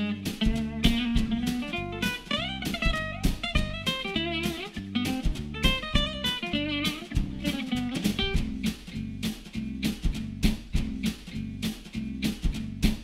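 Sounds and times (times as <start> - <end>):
plucked guitar: 0.0 - 13.0
steady beat: 0.0 - 13.0.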